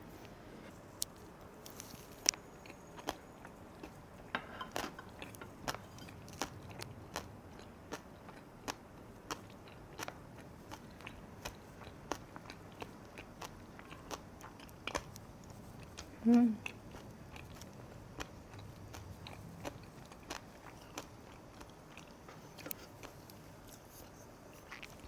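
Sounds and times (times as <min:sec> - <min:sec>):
mouth chewing crunchy food: 0:01.0 - 0:25.0.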